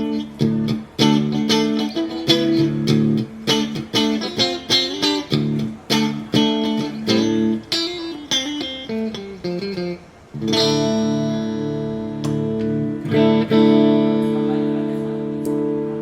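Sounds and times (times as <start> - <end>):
electric guitar chords and picking: 0.0 - 16.0.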